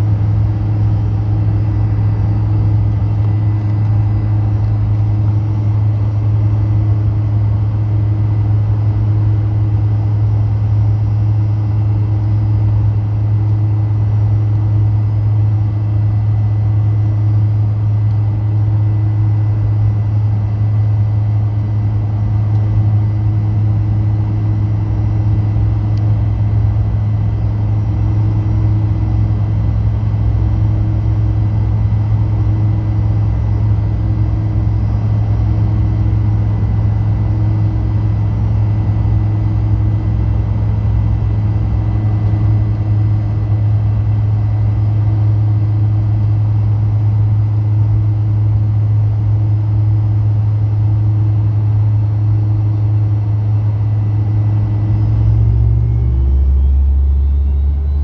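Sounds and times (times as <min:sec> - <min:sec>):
jet engine low hum: 0:00.0 - 0:58.0.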